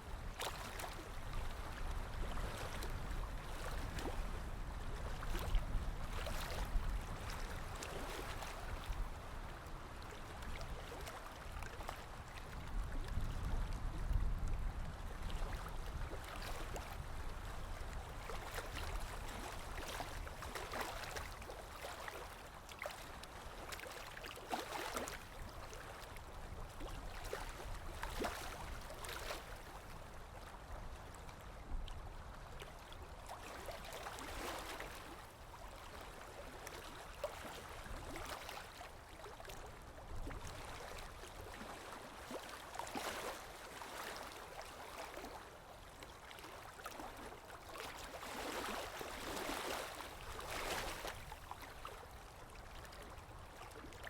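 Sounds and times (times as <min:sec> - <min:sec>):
low rumble of water: 0:00.0 - 0:54.0
sea waves lapping and splashing: 0:00.0 - 0:54.0.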